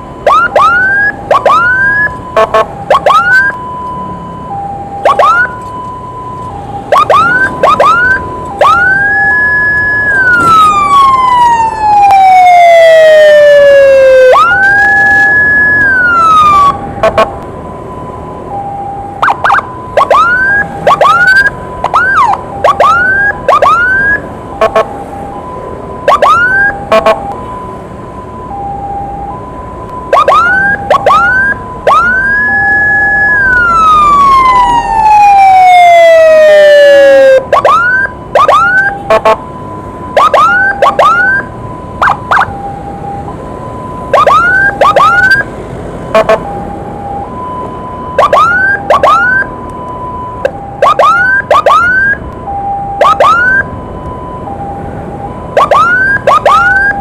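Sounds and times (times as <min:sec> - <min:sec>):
rising siren chirps: 0:00.0 - 0:57.0
two-tone hi-lo siren: 0:00.0 - 0:57.0
wailing siren sweeps: 0:00.0 - 0:57.0.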